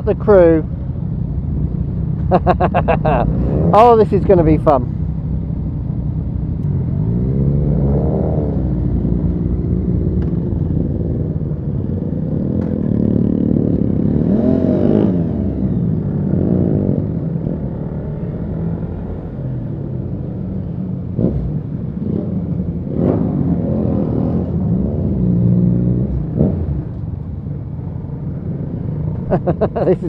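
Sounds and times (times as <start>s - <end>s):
motorcycle engines rumbling: 0.0s - 30.0s.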